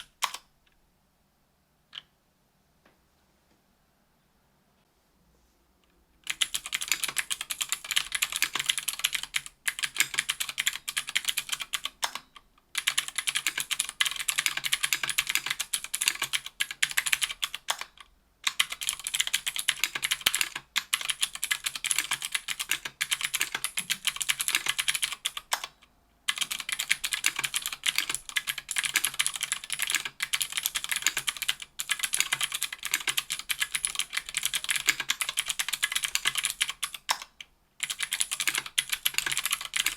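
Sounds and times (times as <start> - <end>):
fast clicky keyboard typing: 0.0 - 0.4, 6.2 - 39.9.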